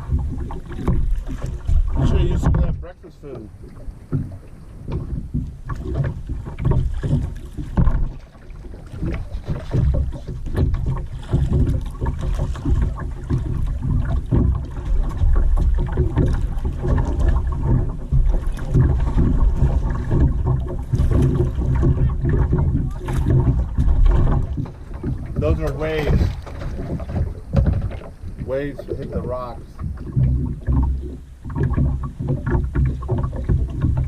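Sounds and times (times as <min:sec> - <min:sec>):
paddle splashing water: 0:00.0 - 0:34.0
wind buffeting microphone: 0:00.0 - 0:34.0.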